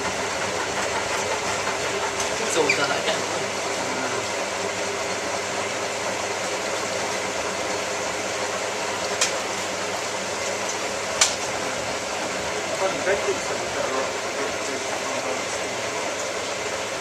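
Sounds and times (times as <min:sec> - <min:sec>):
washing machine whirring: 0:00.0 - 0:17.0.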